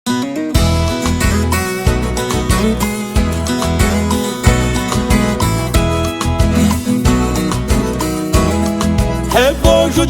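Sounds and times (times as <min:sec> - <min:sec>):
plucked guitar: 0:00.1 - 0:10.0
bass: 0:00.6 - 0:10.0
steady beat: 0:00.6 - 0:10.0.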